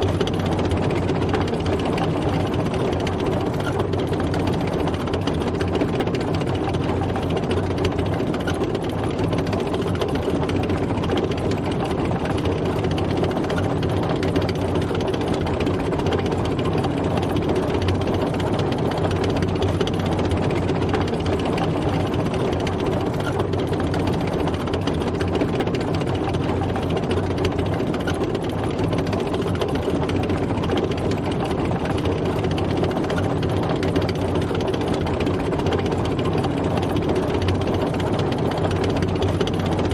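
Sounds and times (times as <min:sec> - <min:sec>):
dense mechanical rattle: 0:00.0 - 0:39.9
tank engine running: 0:00.0 - 0:39.9.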